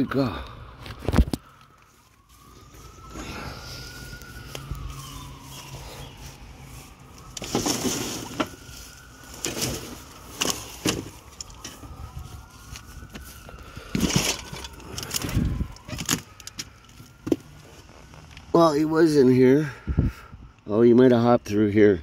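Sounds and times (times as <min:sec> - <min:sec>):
distant siren wailing: 0:00.0 - 0:20.7
plastic tarps and weeds rustling: 0:01.0 - 0:18.8.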